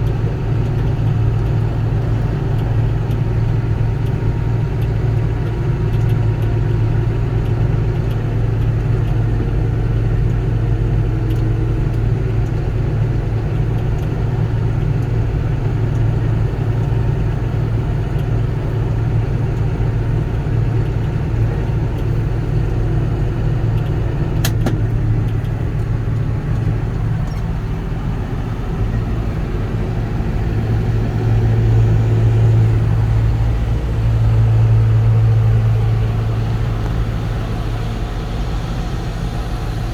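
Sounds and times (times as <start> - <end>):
farm machinery engine drone: 0.0 - 39.9.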